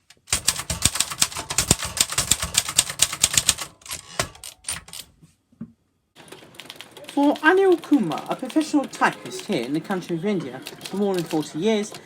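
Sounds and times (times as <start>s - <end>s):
manual typewriter typing: 0.0s - 5.1s, 6.2s - 12.0s.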